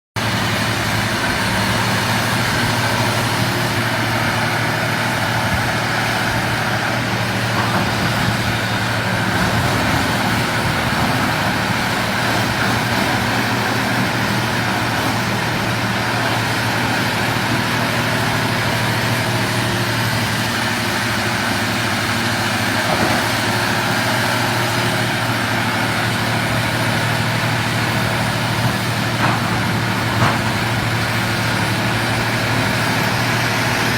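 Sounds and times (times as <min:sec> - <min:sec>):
excavator diesel engine droning: 0:00.2 - 0:33.9.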